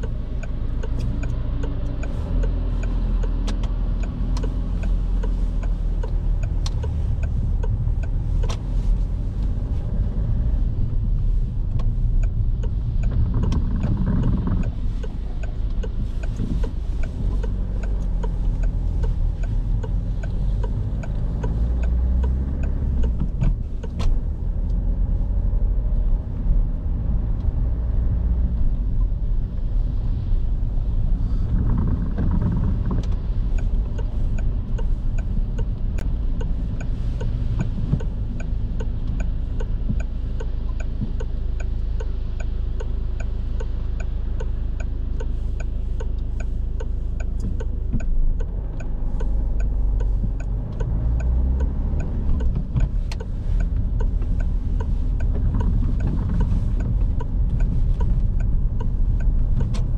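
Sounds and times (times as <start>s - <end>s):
faint clicks: 0.0s - 10.0s, 10.8s - 24.9s, 31.2s - 59.9s
car engine and road rumble: 0.0s - 59.9s.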